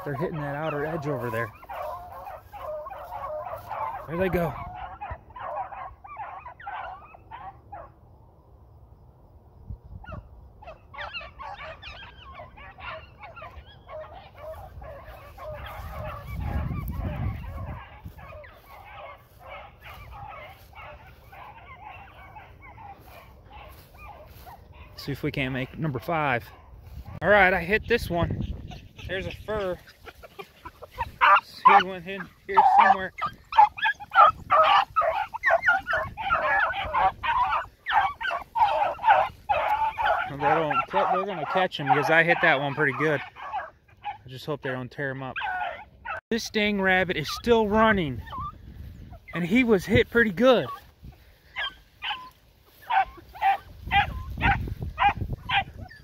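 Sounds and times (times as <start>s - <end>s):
dogs baying and yelping: 0.0s - 8.0s, 10.0s - 56.0s.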